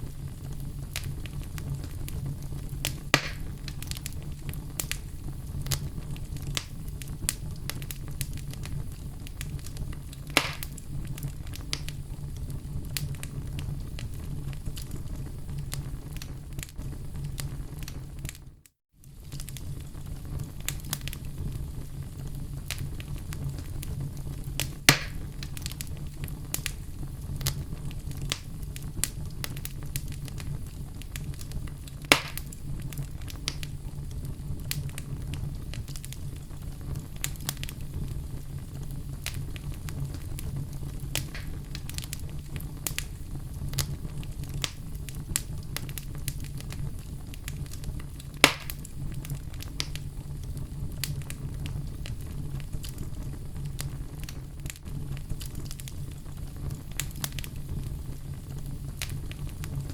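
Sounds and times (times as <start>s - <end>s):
sharp fire pops: 0.0s - 59.9s
wood fire crackling: 0.0s - 59.9s.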